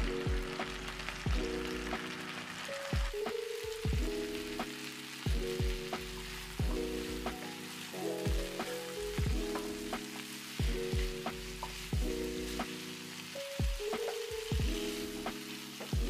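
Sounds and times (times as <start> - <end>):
background music with low beat: 0.0 - 2.2, 2.9 - 7.5, 8.1 - 12.8, 13.6 - 16.0
butter sizzling in a frying pan: 0.0 - 16.0.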